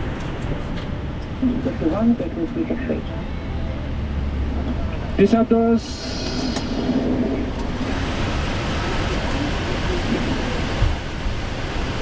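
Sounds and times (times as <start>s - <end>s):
aircraft systems noise: 0.0s - 11.0s
flight deck airflow noise: 0.0s - 12.0s.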